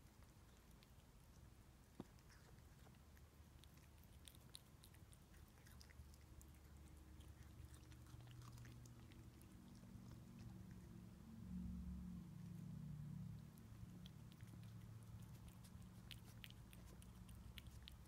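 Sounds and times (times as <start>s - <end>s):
cat chewing crunchily: 0.0s - 18.0s
faint low hum: 0.0s - 18.0s.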